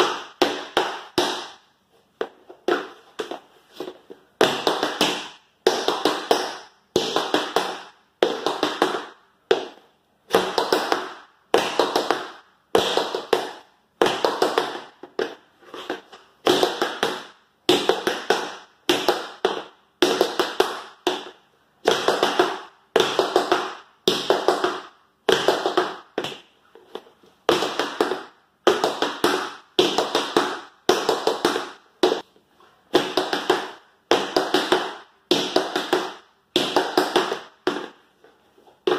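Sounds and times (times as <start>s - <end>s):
tap shoes on wooden floor: 0.0s - 1.6s, 2.2s - 32.3s, 32.9s - 38.9s.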